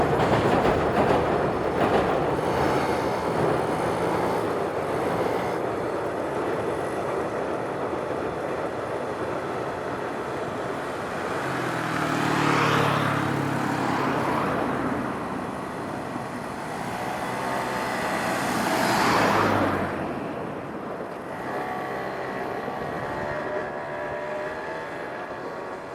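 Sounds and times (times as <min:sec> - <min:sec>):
road vehicles driving past: 0:00.0 - 0:25.9.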